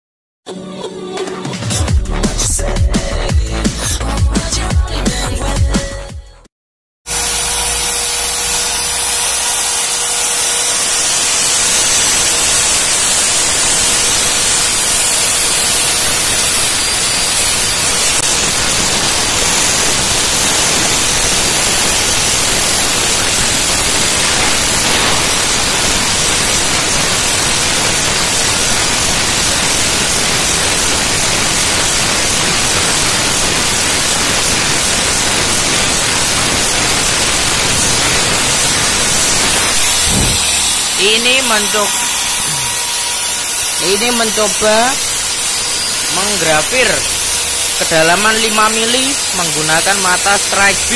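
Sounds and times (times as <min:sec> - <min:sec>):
cnc router spindle hissing: 0:07.1 - 0:50.9.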